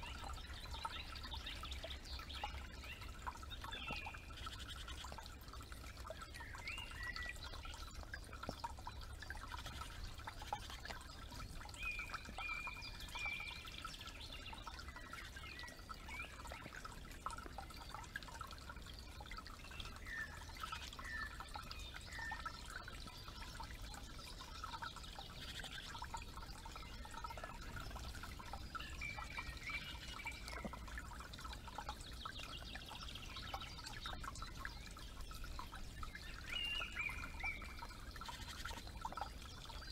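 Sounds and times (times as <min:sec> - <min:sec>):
creek trickling: 0:00.0 - 0:39.9
small birds chirping: 0:00.0 - 0:39.9.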